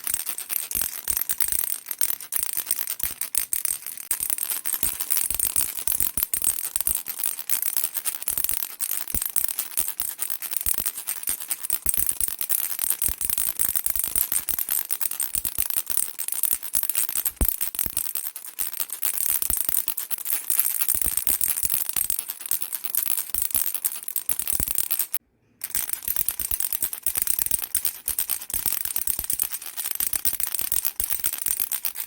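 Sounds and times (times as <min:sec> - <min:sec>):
baby rattle shaking: 0:00.0 - 0:32.0.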